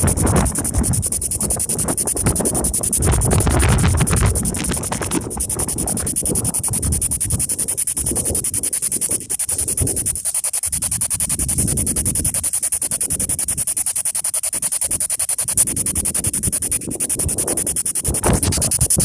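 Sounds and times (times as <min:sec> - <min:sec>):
choppy radio static pulsing: 0:00.0 - 0:19.0
steady high whine: 0:00.0 - 0:19.0
wind buffeting microphone: 0:00.0 - 0:19.0.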